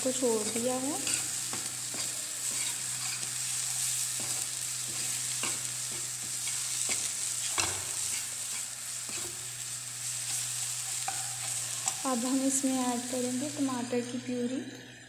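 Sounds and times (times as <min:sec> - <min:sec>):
oil sizzling: 0:00.0 - 0:15.0
metal spoon scraping a frying pan: 0:00.1 - 0:12.2.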